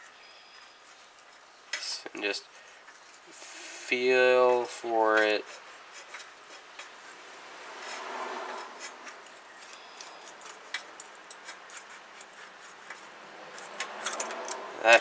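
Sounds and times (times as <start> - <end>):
metallic rubbing and small clicks: 0.0 - 15.0.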